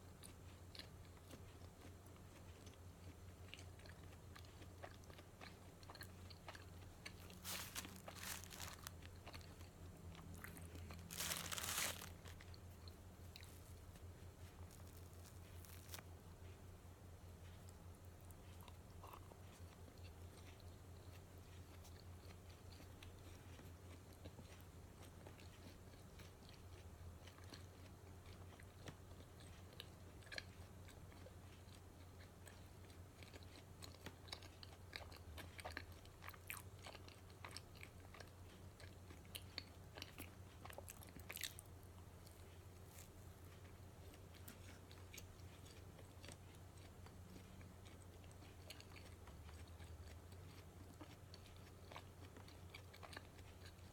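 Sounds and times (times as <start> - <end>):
person chewing: 0.1 - 53.9.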